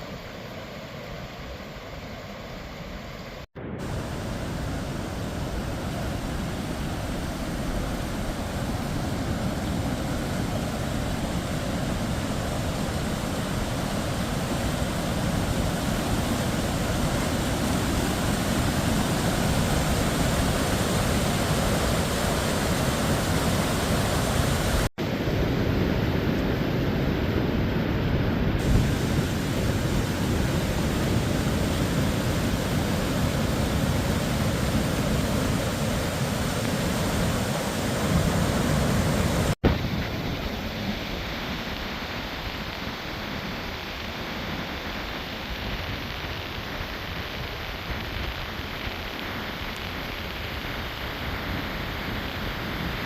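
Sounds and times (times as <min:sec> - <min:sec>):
waterfall rushing: 0:03.8 - 0:25.2, 0:28.6 - 0:53.0.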